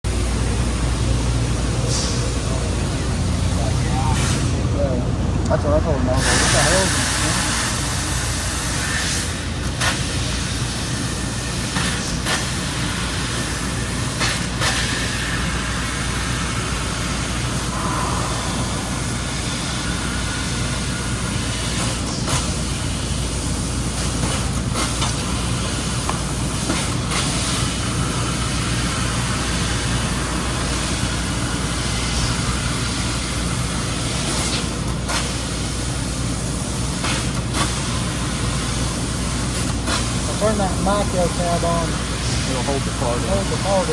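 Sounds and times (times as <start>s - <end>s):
laser cutting machine humming: 0.1s - 43.9s.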